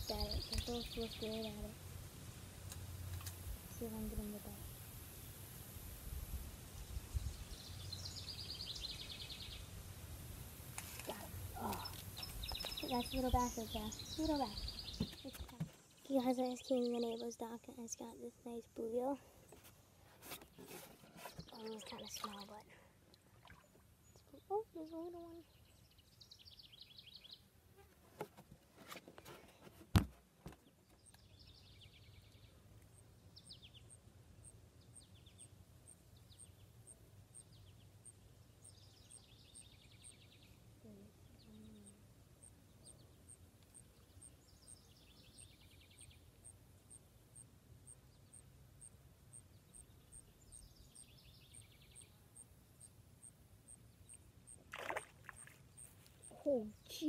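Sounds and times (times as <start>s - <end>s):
songbird singing: 0.0s - 5.6s, 6.6s - 27.9s, 30.5s - 57.0s.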